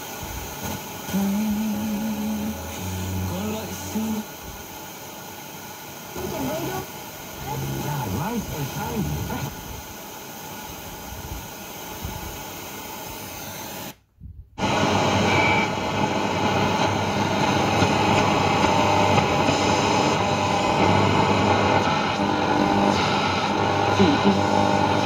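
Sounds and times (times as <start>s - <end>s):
radio static hiss: 0.0s - 14.0s, 14.6s - 25.0s.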